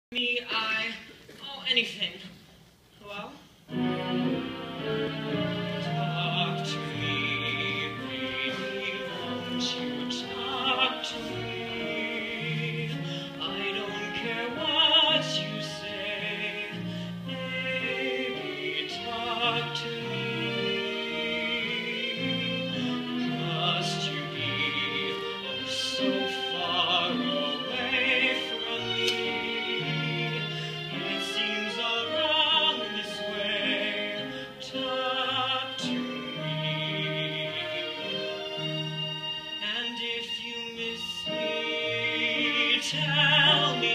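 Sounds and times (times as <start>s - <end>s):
instrumental accompaniment: 3.7s - 43.9s
person singing with vibrato: 4.6s - 43.9s.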